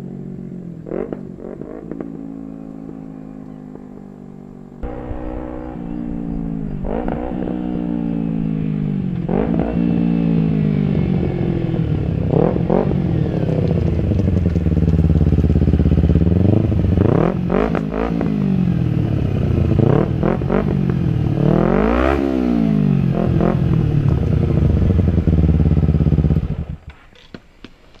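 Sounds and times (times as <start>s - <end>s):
motorcycle engine revving: 0.0s - 27.4s.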